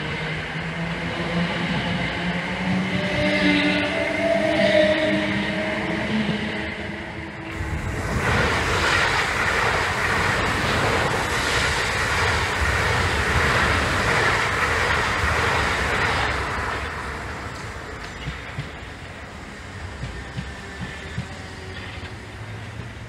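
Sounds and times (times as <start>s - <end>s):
electric train passing fast: 0.0s - 23.0s.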